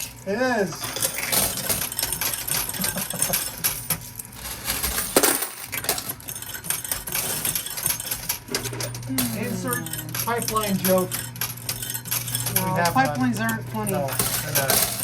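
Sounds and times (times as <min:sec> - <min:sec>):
coins clinking in arcade machine: 0:00.8 - 0:15.0.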